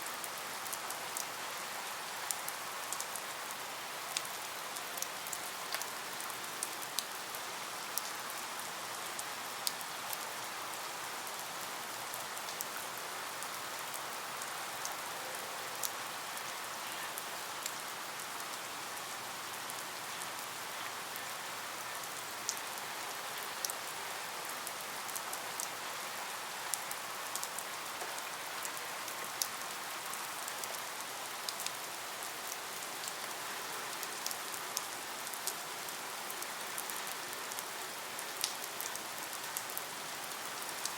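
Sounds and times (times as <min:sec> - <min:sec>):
steady rain hiss: 0:00.0 - 0:40.9
raindrops ticking on surface: 0:00.1 - 0:15.1, 0:15.8 - 0:21.2, 0:22.0 - 0:40.9.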